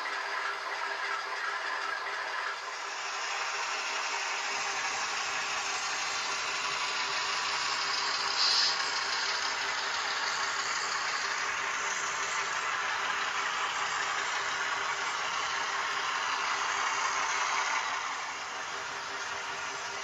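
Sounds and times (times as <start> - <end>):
model train wheels rattling on rail: 1.7 - 20.0.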